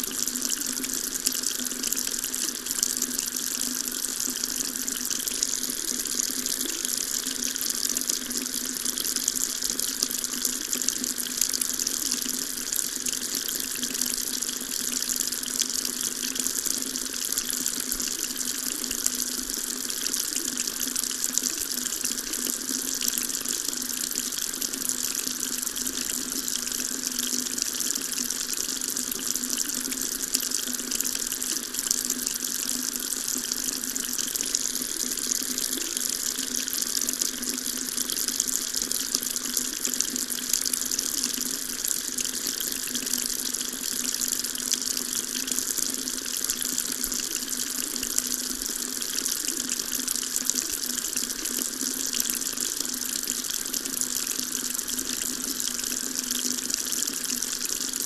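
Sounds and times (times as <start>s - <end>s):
water tap running: 0.0s - 58.0s.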